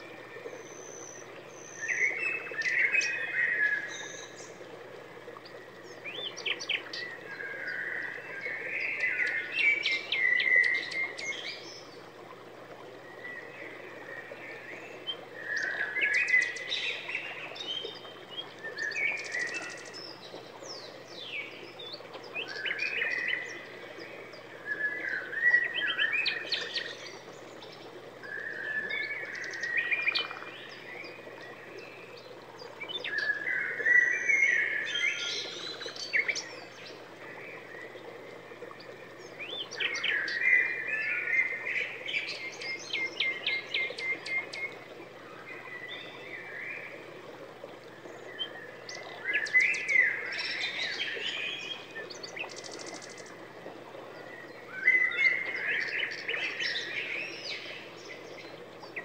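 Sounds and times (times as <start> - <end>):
songbird singing: 0.0 - 12.2, 12.8 - 59.0.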